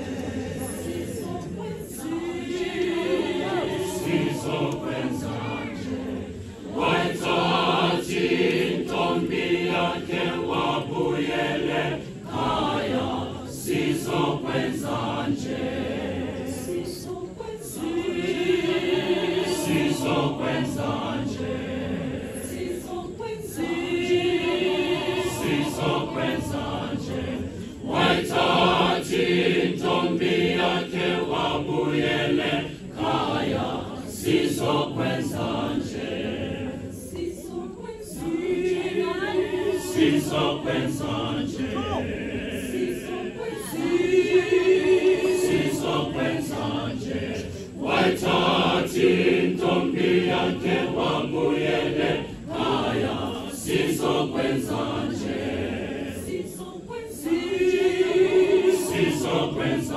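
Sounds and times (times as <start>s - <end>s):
mixed choir singing a cappella: 0.0s - 59.9s.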